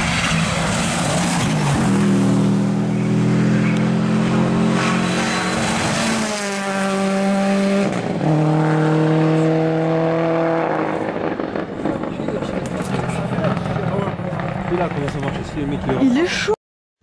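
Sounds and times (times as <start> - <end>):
rally car engine at high revs: 0.0 - 15.4.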